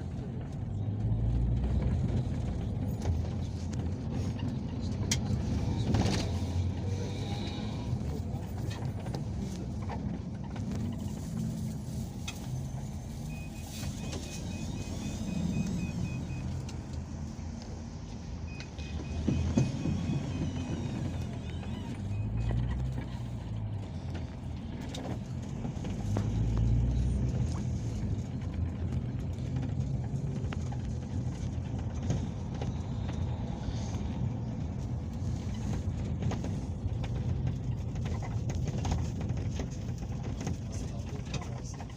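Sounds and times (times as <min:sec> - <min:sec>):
engine and road rumble: 0:00.0 - 0:41.9.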